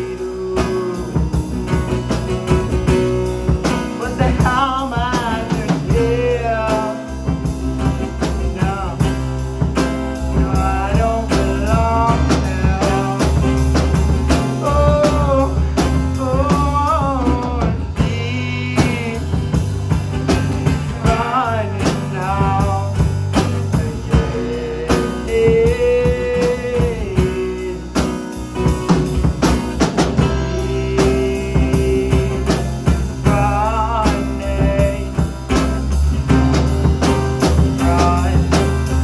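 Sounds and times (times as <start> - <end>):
drum kit: 0.0 - 39.0
man singing: 0.0 - 39.0
strummed acoustic guitar: 0.0 - 39.0.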